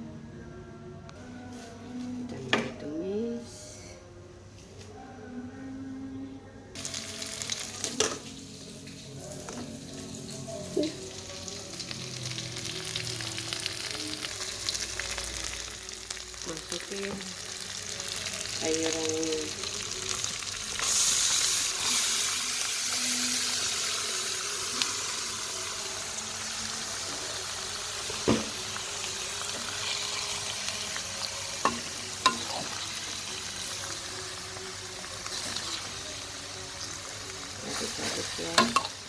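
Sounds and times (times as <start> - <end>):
vegetables sizzling in hot oil: 6.8 - 39.0.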